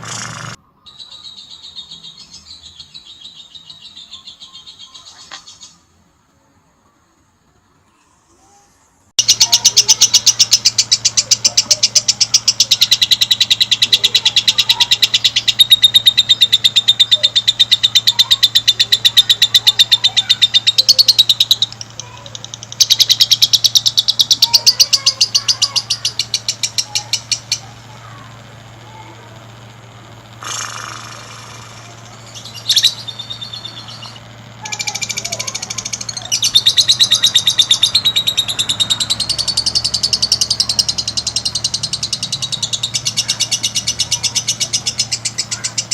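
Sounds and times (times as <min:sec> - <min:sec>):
bird chirping rapidly: 0:00.0 - 0:05.8, 0:09.2 - 0:45.9
steady low hum: 0:00.0 - 0:45.9.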